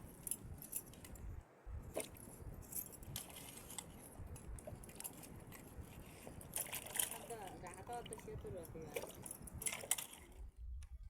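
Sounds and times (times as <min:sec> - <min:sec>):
light clicks and clinks: 0:00.0 - 0:01.3, 0:01.9 - 0:10.5.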